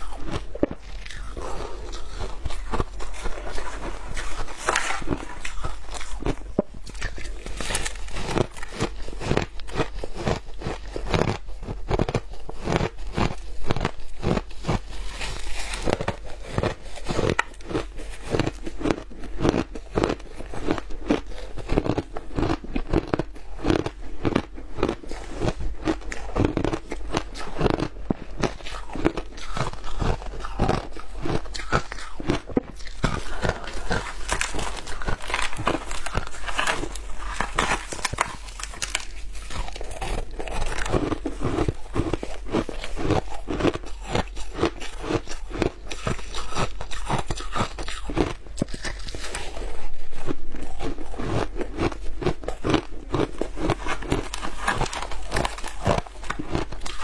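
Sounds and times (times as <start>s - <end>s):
crunching ice being chewed: 0.0s - 57.0s.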